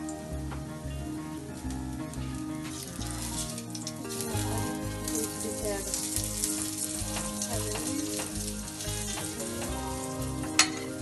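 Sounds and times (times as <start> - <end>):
background music with beat: 0.0 - 11.0
patty sizzling in oil: 0.0 - 11.0.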